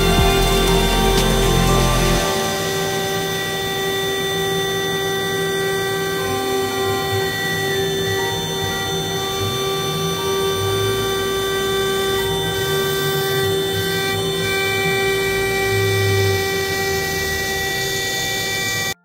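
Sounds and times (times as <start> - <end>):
router spindle whining: 0.0 - 19.0.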